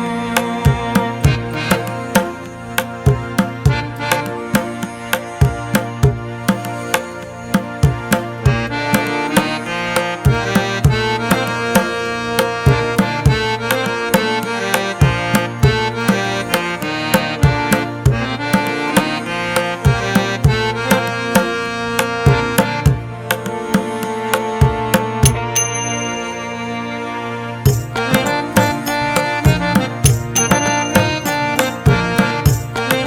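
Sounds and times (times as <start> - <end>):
steady drum beat: 0.3 - 21.5, 22.2 - 24.0, 24.6 - 25.6, 27.7 - 33.0.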